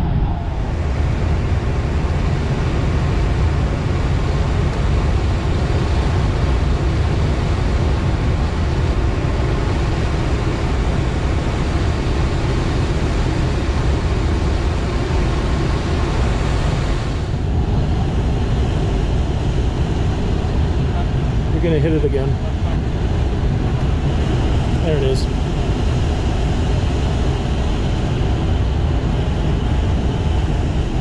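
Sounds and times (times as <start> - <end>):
rushing airflow past glider: 0.0 - 31.0.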